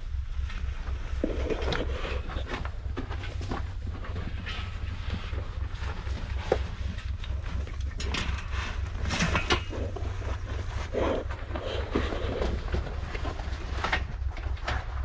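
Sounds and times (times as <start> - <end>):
rustles and knocks of people moving: 0.0 - 15.0.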